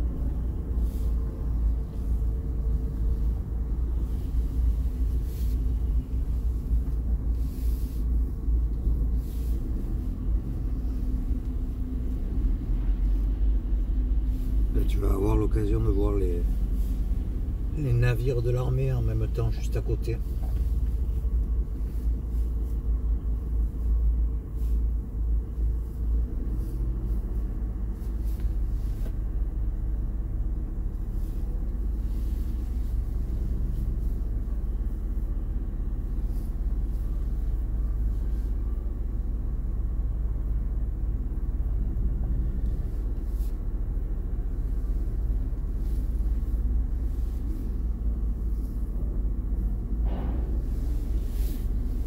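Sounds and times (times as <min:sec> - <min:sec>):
low engine and road rumble: 0:00.0 - 0:52.0.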